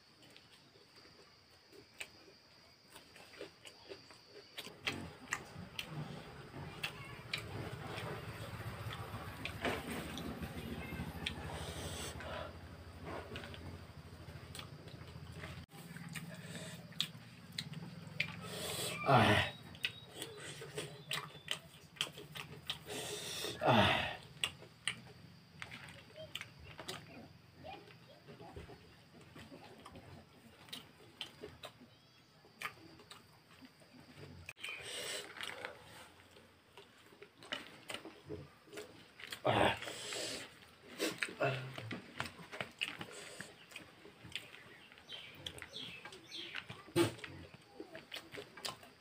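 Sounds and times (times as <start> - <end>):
chewing crunches: 0.2 - 28.0, 28.7 - 49.0.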